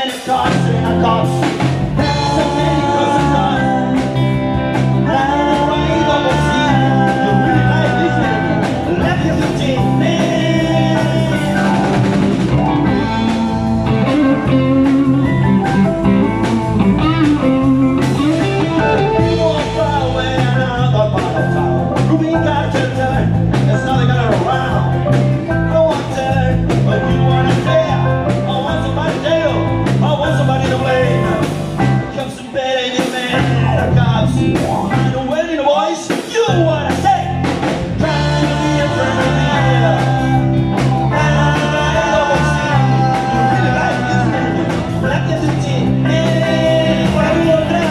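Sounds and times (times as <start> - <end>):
electric guitars: 0.0 - 35.4, 36.5 - 47.9
person singing: 0.0 - 37.3, 37.9 - 47.9
drum kit: 0.0 - 47.9
bass guitar: 0.3 - 35.7, 36.4 - 47.9
electric keyboard: 0.4 - 32.6, 33.2 - 35.8, 36.5 - 47.9.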